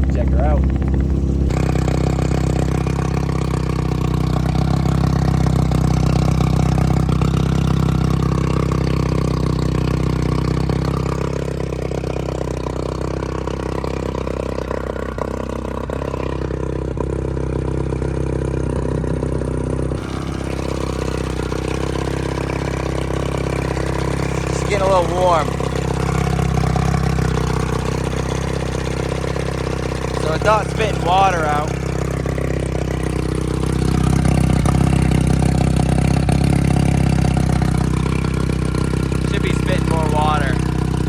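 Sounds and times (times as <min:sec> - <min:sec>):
outboard motor idling: 0:00.0 - 0:41.0.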